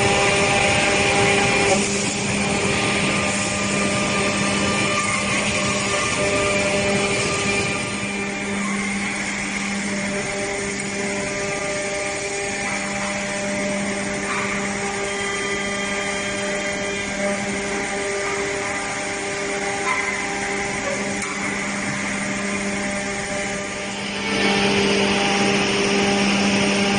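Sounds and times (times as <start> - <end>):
noisy whir: 0.0 - 26.9
woodworking machinery humming: 0.0 - 26.9.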